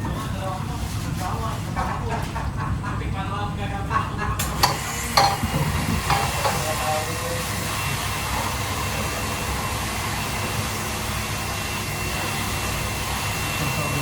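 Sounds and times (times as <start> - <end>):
exhaust fan rushing: 0.0 - 14.0.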